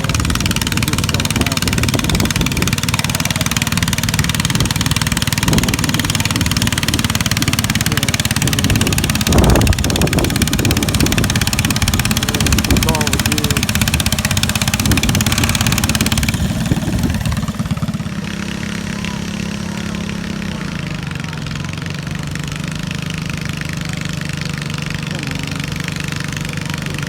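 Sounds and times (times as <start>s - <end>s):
lawn tractor engine running: 0.0s - 27.0s.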